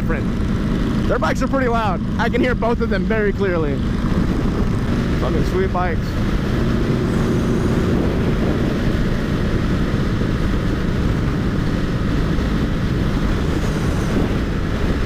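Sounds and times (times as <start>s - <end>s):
loud cruiser motorcycle exhaust: 0.0s - 15.0s
motorcycle engine at speed: 0.0s - 15.0s
wind rush: 0.0s - 15.0s.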